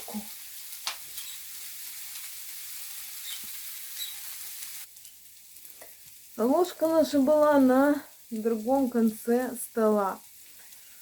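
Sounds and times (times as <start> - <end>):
onion sizzling in a pan: 0.0 - 11.0.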